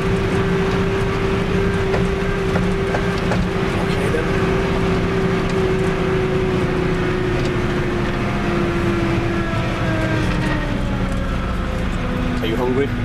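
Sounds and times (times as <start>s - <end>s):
tractor diesel engine droning: 0.0s - 13.0s.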